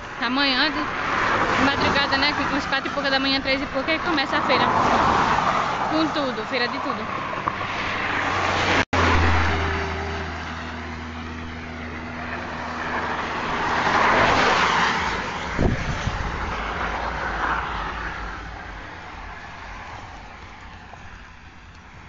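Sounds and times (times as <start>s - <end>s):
vehicle engine humming: 0.0s - 22.0s
vehicle passing by: 0.4s - 22.0s.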